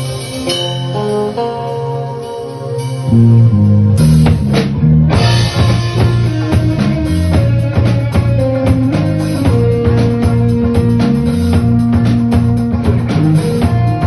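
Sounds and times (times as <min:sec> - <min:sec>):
rock band playing live: 0:00.0 - 0:14.0
steady drum beat: 0:00.0 - 0:14.0.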